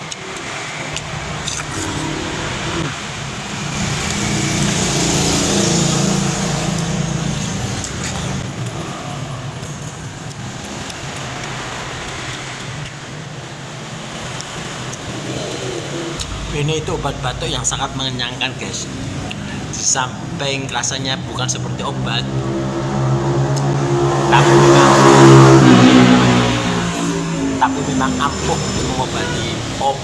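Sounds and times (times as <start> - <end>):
motor vehicle rumble and hiss: 0.0 - 30.0.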